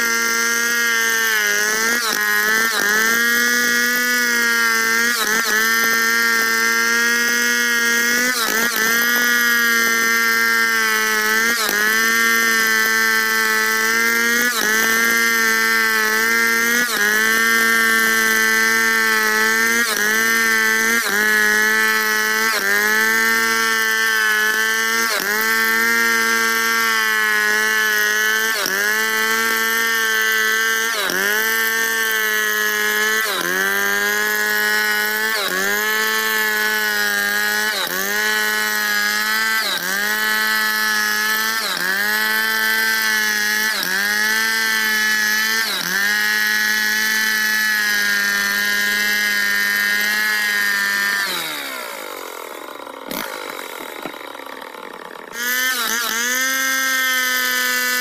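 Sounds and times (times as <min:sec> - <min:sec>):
chainsaw cutting through log: 0:00.0 - 0:58.0.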